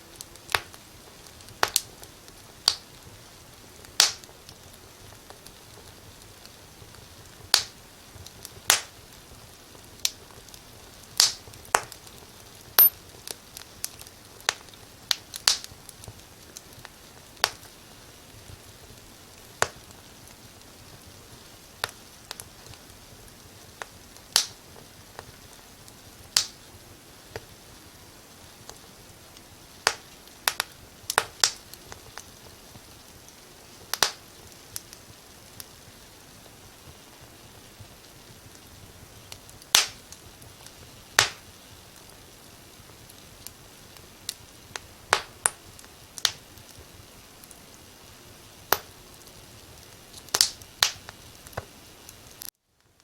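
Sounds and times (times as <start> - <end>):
faint steady hiss: 0.0 - 53.0
wood fire crackling: 0.0 - 53.0.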